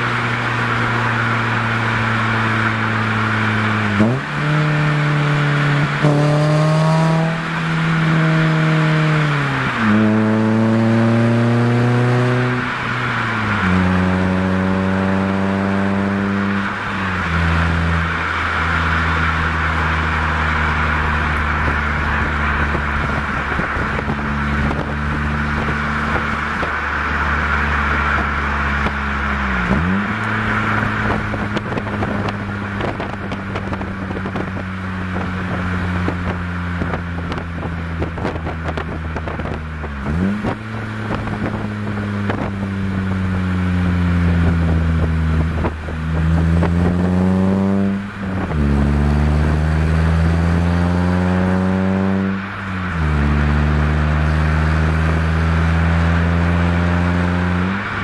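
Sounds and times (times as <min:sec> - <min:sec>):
car exhaust while driving: 0:00.0 - 0:58.0.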